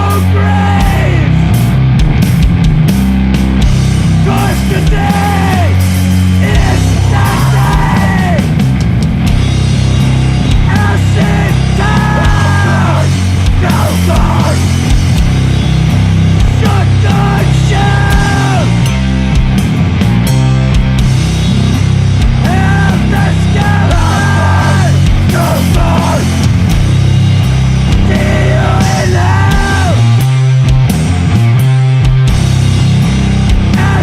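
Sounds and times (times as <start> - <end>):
sludge metal music: 0.0 - 34.0
downward bending pitched lines: 1.0 - 34.0.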